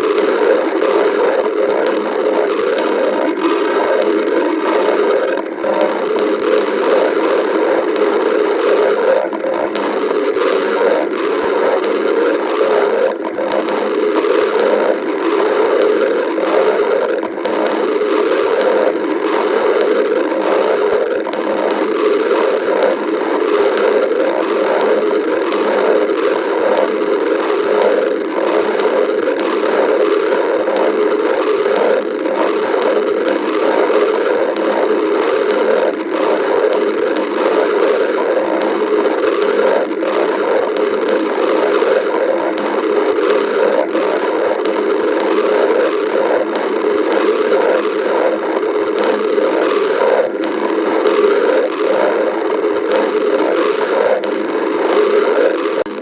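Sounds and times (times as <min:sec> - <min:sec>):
stomach growling: 0:00.0 - 0:56.0.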